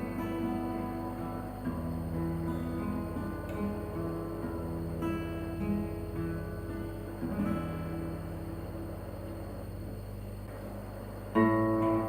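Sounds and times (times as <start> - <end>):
acoustic guitar plucked notes: 0.0 - 9.9, 10.5 - 12.0.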